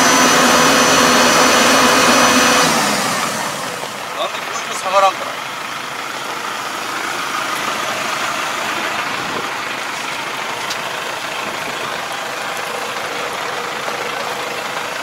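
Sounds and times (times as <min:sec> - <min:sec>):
harrow churning mud and water: 0:00.0 - 0:15.0
tractor diesel engine running: 0:00.0 - 0:15.0.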